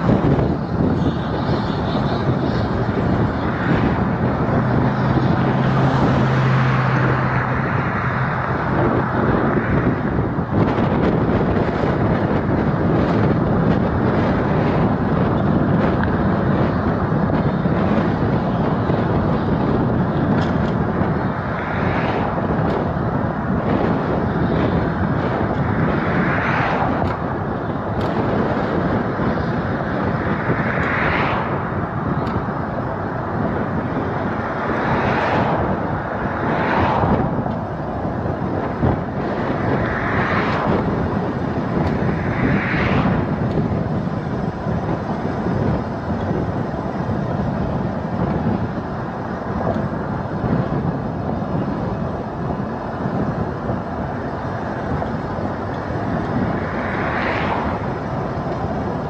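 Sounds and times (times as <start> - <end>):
car road and wind noise: 0.0 - 59.0
vehicles passing by: 0.0 - 59.0.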